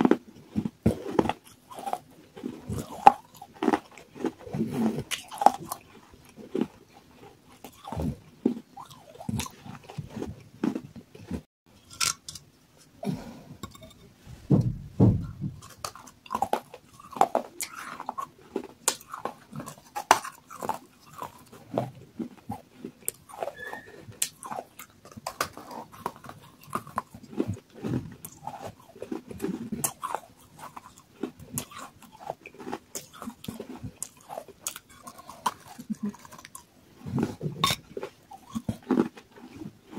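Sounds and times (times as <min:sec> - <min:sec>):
chewing clay pieces crunching: 0:00.0 - 0:12.4, 0:15.6 - 0:39.9.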